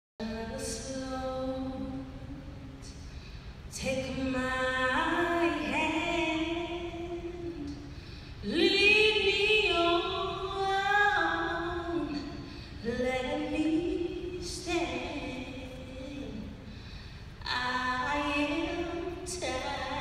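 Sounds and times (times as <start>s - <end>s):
woman singing unaccompanied: 0.2s - 2.9s, 3.7s - 16.6s, 17.4s - 20.0s.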